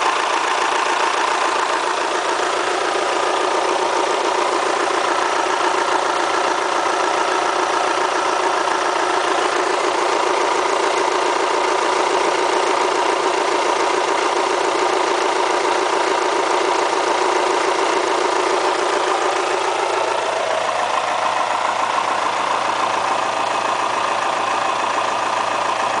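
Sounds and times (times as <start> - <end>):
car engine idling with clatter: 0.0 - 26.0.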